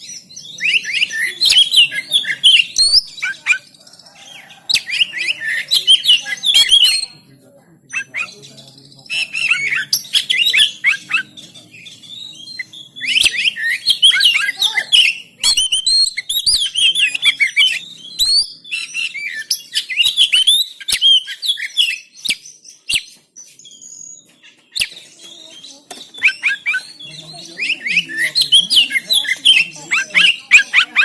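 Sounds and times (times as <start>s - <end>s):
bird singing whistles and chatter: 0.0s - 7.3s, 7.9s - 31.0s.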